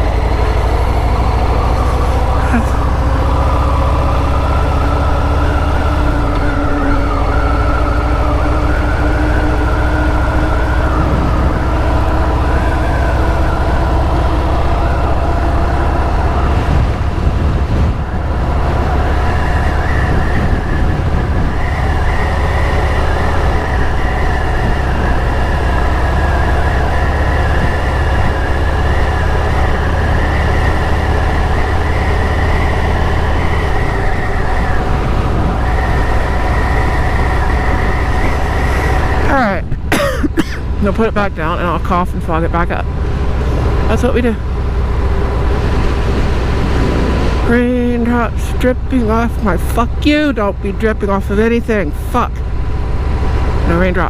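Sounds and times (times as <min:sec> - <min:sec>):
motorcycle engine drone: 0:00.0 - 0:54.0
whining tones: 0:00.0 - 0:54.0
wind rush: 0:00.0 - 0:54.0.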